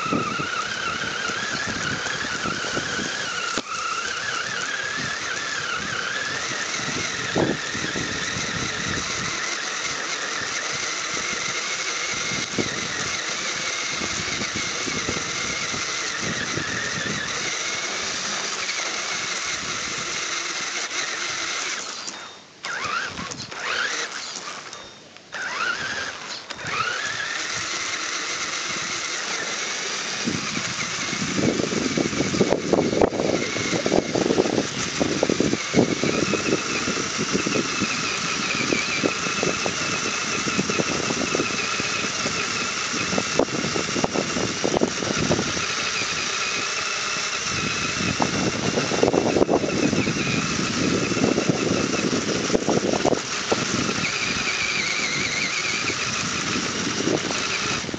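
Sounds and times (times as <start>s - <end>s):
chassis rattling over rough ground: 0.0s - 57.9s
toy motor and gearbox whining: 0.0s - 57.9s.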